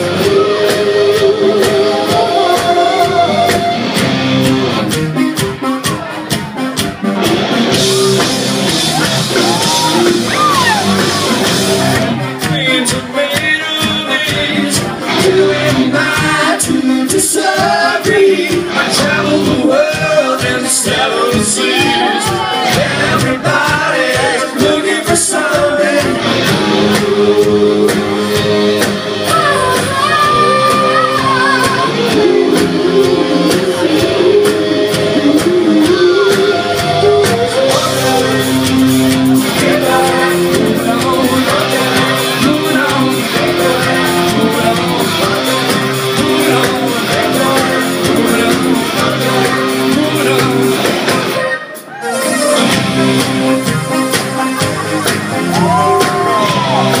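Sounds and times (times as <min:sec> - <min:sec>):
person singing: 0:00.0 - 0:04.5, 0:07.8 - 0:57.0
drums: 0:00.0 - 0:57.0
electric guitars: 0:00.0 - 0:57.0.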